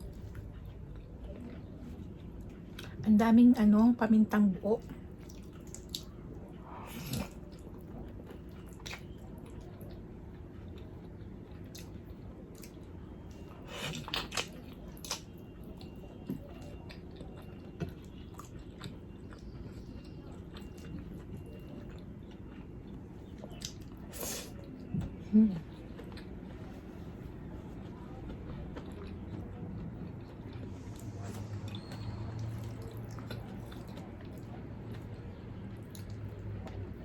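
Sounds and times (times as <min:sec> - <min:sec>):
steady low hum: 0:00.0 - 0:37.0
person chewing food: 0:04.9 - 0:36.9.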